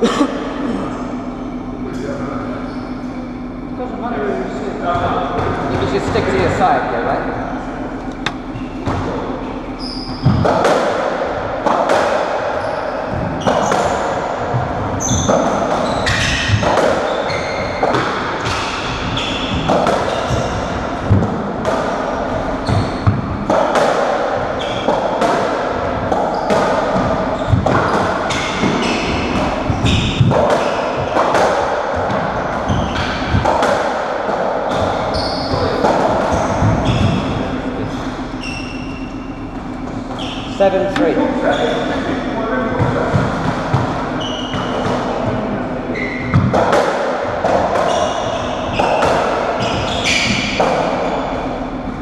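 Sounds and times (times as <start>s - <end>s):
ball smacking rackets and walls: 8.1s - 41.2s, 42.7s - 45.4s, 46.0s - 51.8s.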